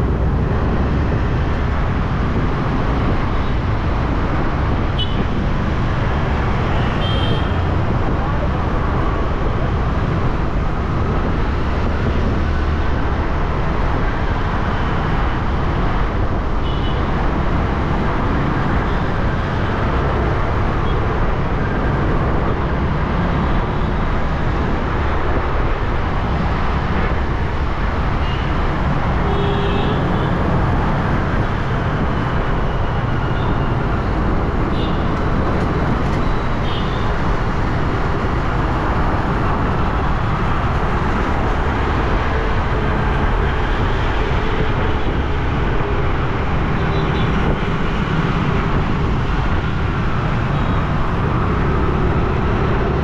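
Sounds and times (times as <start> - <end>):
motor scooter riding in traffic: 0.0 - 53.0.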